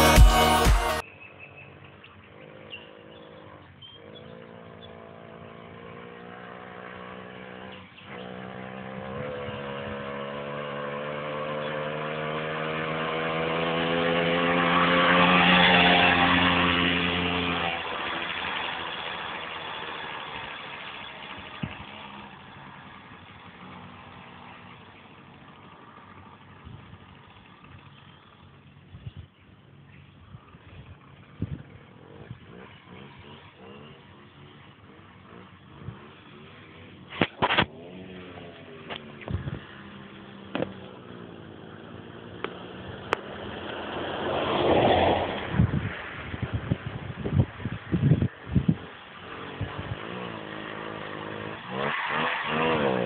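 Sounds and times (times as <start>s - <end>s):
moped engine passing: 0.0s - 53.0s.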